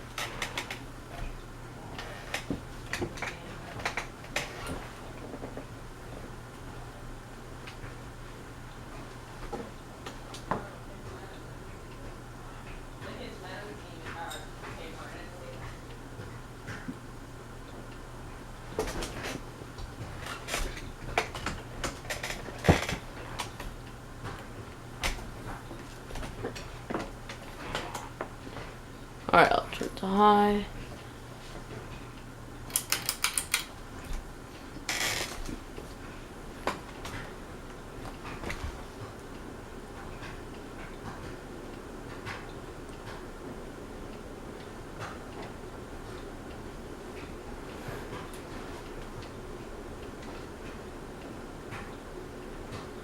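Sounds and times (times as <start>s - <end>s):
ceiling fan motor hum: 0.0s - 53.0s.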